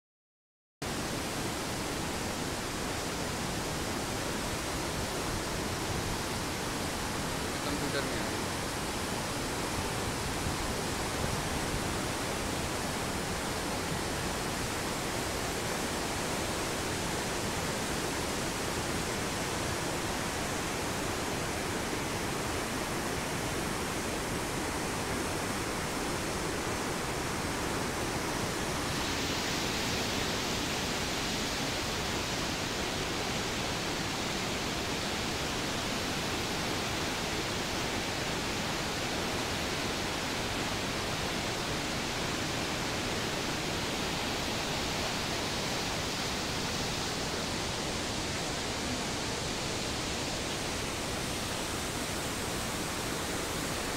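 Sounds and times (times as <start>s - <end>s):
waterfall rushing: 0.9s - 53.9s.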